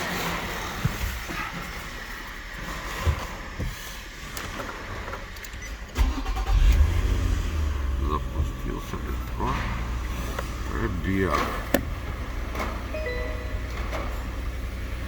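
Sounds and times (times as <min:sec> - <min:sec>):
car engine starting and idling: 0:00.2 - 0:15.0.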